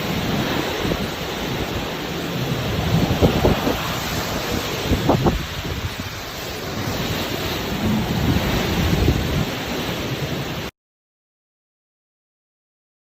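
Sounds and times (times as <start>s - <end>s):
strong wind buffeting microphone: 0.0s - 10.7s.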